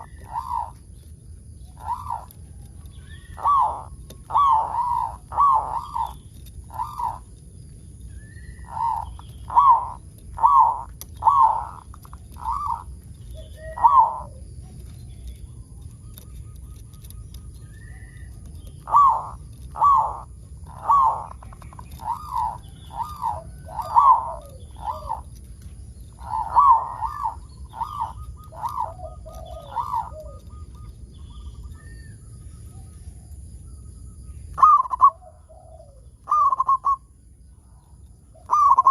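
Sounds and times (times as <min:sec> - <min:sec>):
dove cooing: 0:00.0 - 0:33.4, 0:34.5 - 0:38.9.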